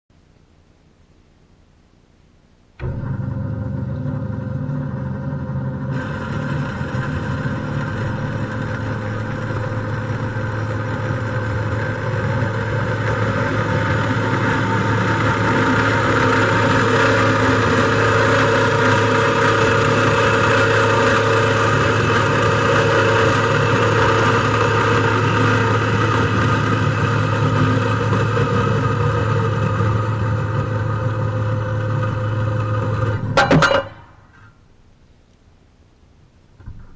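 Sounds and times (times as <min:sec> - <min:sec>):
band saw humming: 0:02.8 - 0:34.5.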